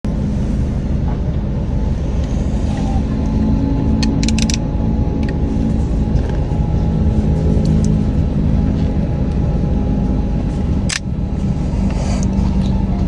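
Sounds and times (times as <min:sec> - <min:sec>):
drone motors buzzing: 0:00.1 - 0:09.3, 0:09.9 - 0:13.0.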